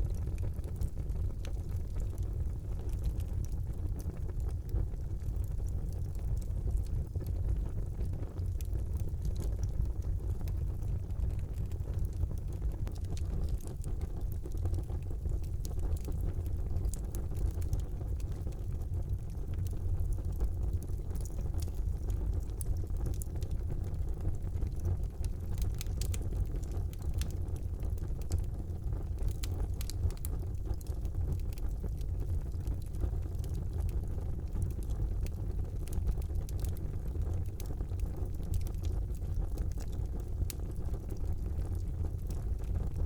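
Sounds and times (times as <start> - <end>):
burning wood crackling and popping: 0.0 - 43.0
fire flames rumbling: 0.0 - 43.0.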